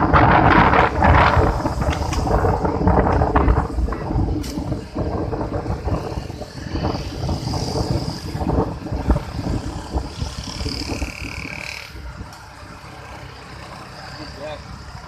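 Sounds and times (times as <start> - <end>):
road traffic: 0.0 - 15.0
wind rumbling on microphone: 0.0 - 15.0.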